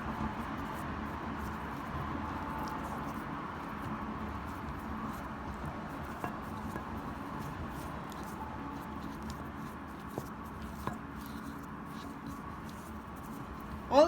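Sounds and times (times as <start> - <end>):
soft food handling sounds: 0.0 - 14.0.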